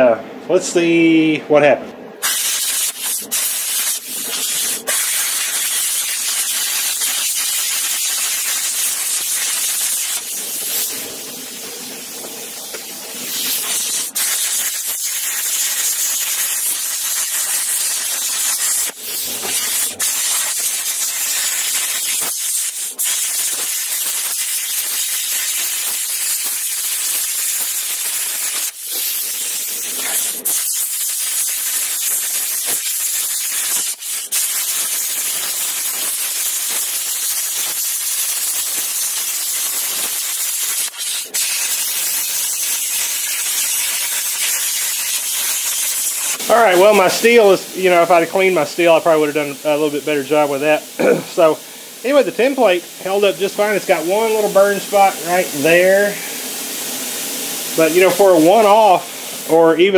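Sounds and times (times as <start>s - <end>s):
plasma cutter hissing: 2.2s - 59.9s.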